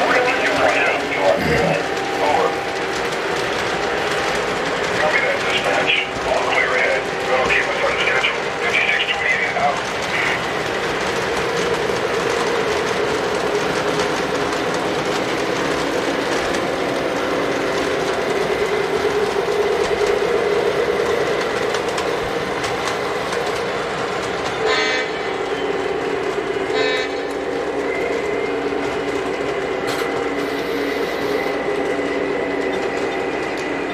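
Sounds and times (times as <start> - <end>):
model train rumbling: 0.0 - 33.9.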